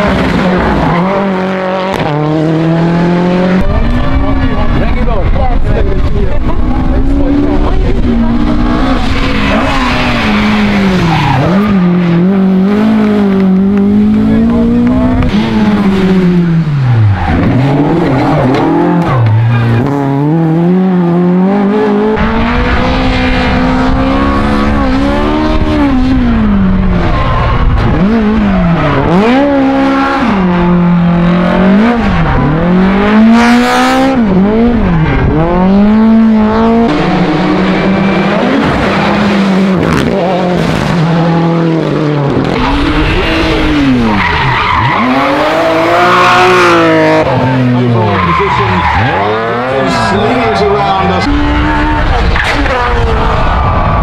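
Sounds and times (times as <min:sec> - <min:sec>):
rally car engines revving: 0:00.0 - 0:54.0
tyres skidding and squealing: 0:00.0 - 0:54.0.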